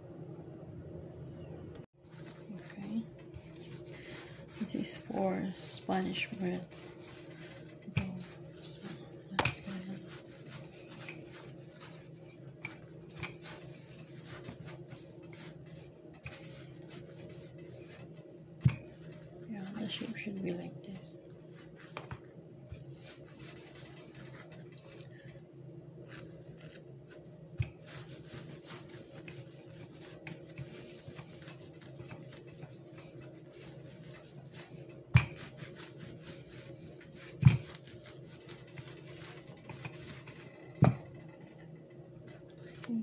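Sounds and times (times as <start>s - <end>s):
rolling pin rubbing on dough: 2.0s - 25.3s, 26.0s - 43.0s.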